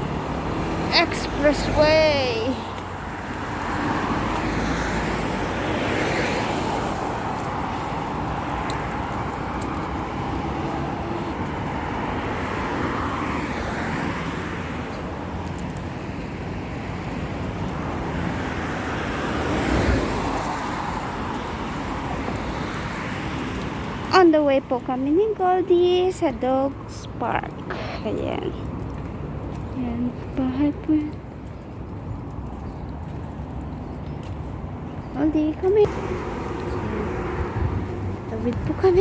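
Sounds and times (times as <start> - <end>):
road traffic noise: 0.0 - 39.0
vehicles passing: 0.0 - 39.0.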